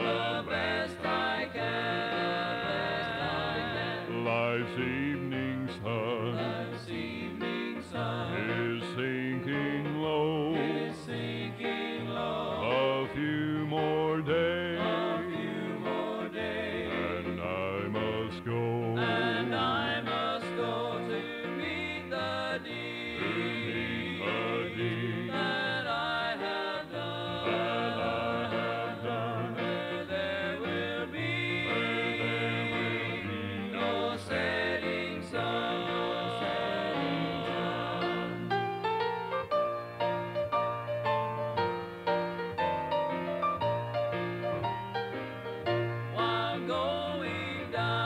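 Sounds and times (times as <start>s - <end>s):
vocal group singing a hymn: 0.0s - 40.4s, 45.8s - 48.0s
backing music: 0.0s - 48.0s.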